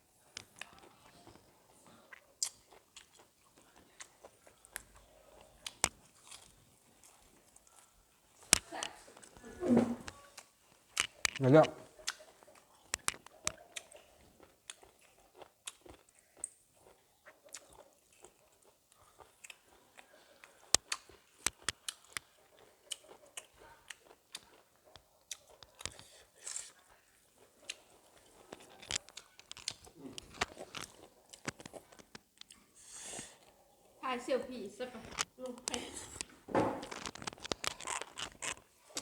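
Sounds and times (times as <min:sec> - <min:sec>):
person chewing crunchy food: 0:00.4 - 0:09.4, 0:10.0 - 0:33.6, 0:35.0 - 0:39.0.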